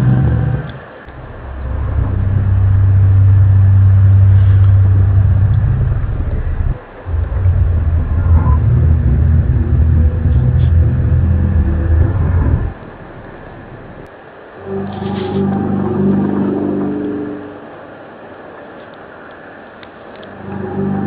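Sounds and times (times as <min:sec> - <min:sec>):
loud low droning rumble: 0:00.0 - 0:18.6, 0:20.2 - 0:21.0.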